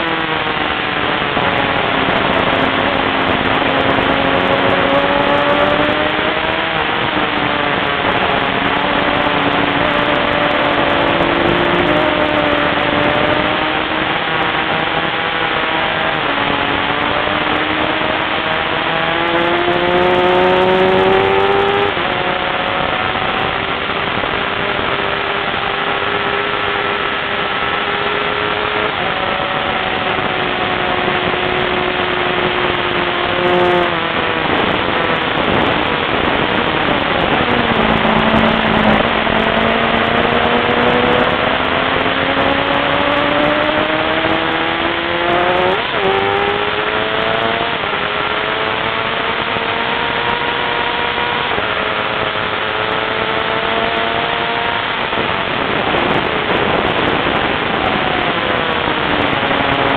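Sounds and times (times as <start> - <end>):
motorcycle engine running hard: 0.0 - 59.9
wind rush on microphone: 0.0 - 59.9.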